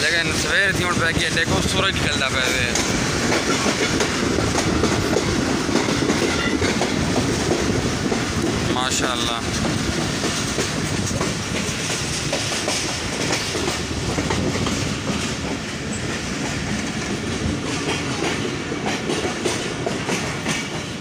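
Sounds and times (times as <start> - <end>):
train carriage rumble: 0.0 - 21.0
wheels clicking over rail joints: 1.2 - 21.0.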